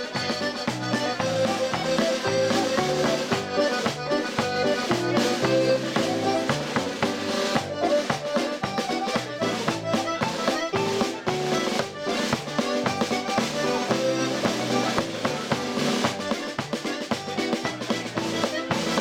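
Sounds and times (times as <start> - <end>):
drum tapping a steady beat: 0.0 - 19.0
folk dance tune on accordions and banjo: 0.0 - 19.0.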